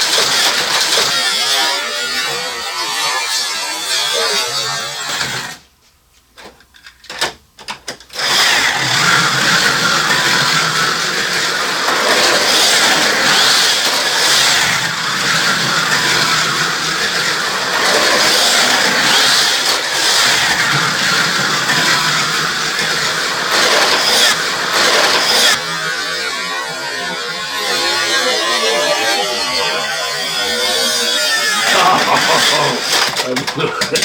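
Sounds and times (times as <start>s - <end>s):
slot car motors whining: 0.0s - 5.7s, 6.8s - 34.0s.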